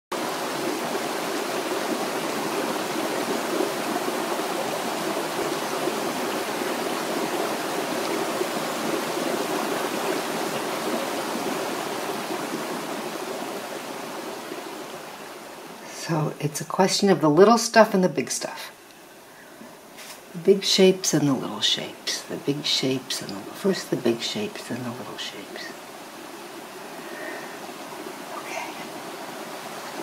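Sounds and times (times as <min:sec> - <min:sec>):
running water rushing: 0:00.1 - 0:30.0.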